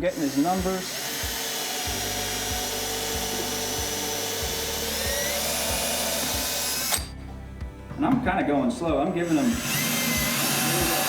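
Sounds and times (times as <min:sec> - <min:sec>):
electric drill boring wood: 0:00.0 - 0:07.2, 0:09.2 - 0:11.0.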